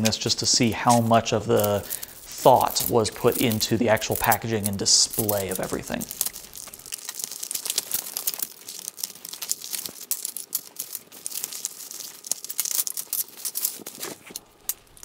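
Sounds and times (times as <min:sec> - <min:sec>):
plastic wrap crinkling and tearing: 0:00.0 - 0:15.0.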